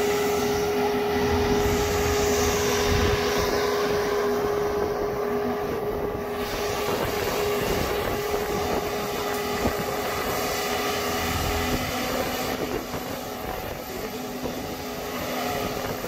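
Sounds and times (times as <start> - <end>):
engine running: 0.0 - 16.0
steady whine: 0.0 - 16.0.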